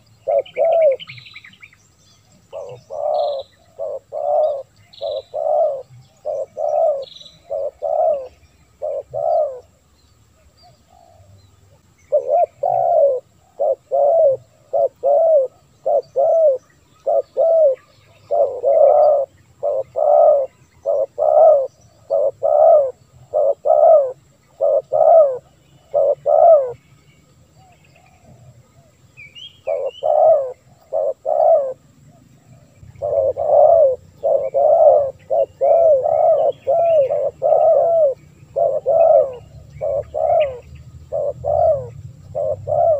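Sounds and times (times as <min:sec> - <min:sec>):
dove cooing: 0:00.0 - 0:01.5, 0:02.3 - 0:09.8, 0:12.1 - 0:26.8, 0:29.6 - 0:42.9.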